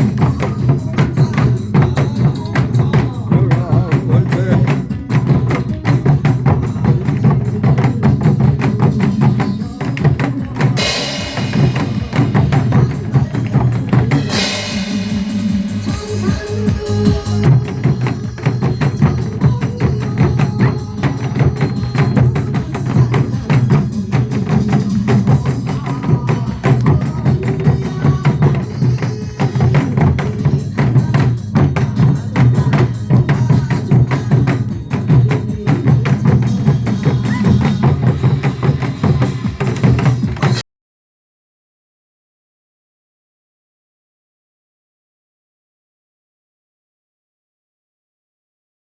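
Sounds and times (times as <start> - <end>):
backing music with melody: 0.0 - 40.6
hourglass drums struck in rhythm: 0.0 - 40.6.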